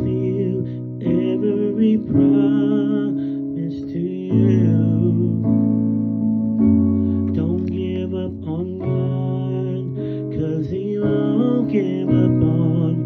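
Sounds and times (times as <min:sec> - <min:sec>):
man singing into a microphone: 0:00.0 - 0:06.0, 0:07.2 - 0:13.0
sustained instrumental chords: 0:00.0 - 0:13.0.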